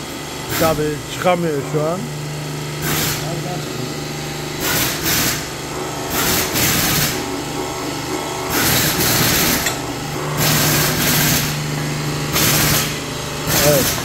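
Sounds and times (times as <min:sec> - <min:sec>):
low machine hum: 0:00.0 - 0:14.0
workshop press bursts: 0:00.0 - 0:14.0.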